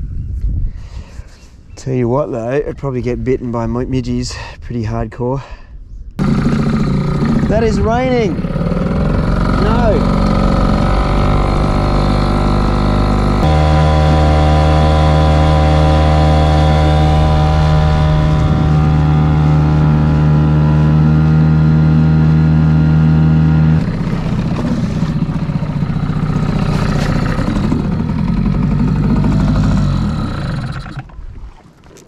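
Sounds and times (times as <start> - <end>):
outboard motor running: 6.2 - 32.0
water splashing: 6.2 - 32.0.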